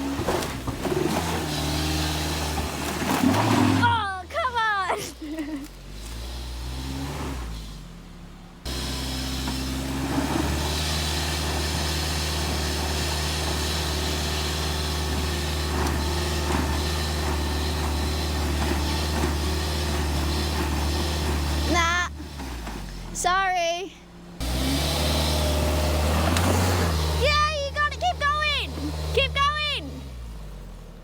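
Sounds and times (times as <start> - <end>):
engine droning under load: 0.0 - 31.0.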